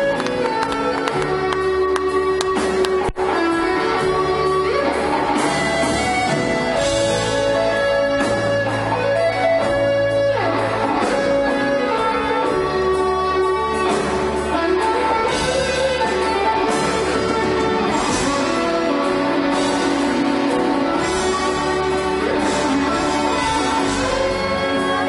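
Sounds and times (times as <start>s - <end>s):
bass guitar: 0.0s - 25.0s
electric guitar lead: 0.0s - 25.0s.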